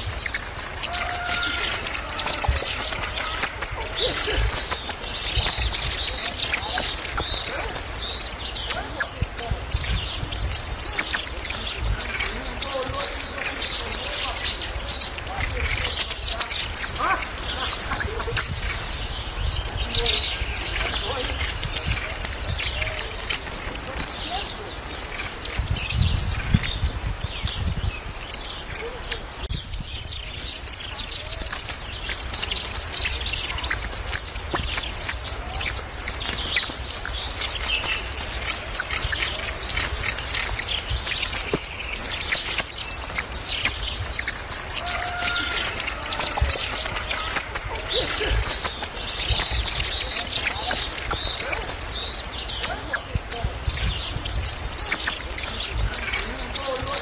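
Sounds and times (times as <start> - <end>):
faint chirps: 0.0 - 57.0.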